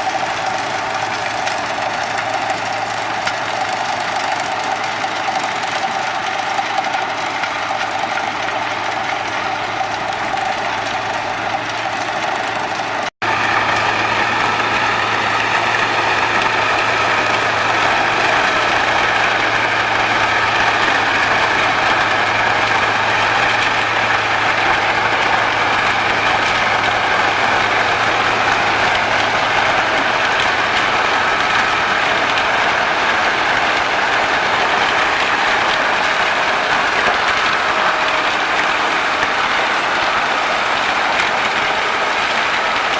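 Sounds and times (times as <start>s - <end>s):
wood chipper engine running: 0.0s - 42.9s
steady whine: 5.4s - 42.9s.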